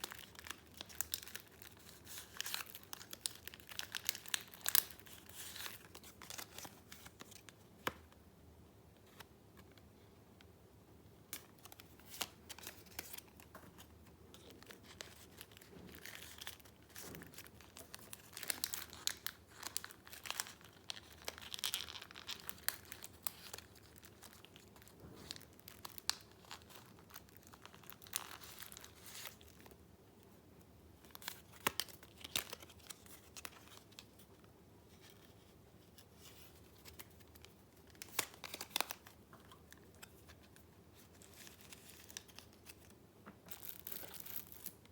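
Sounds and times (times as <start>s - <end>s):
paper rustling and crinkling: 0.0s - 8.0s, 11.4s - 29.7s, 31.1s - 44.9s.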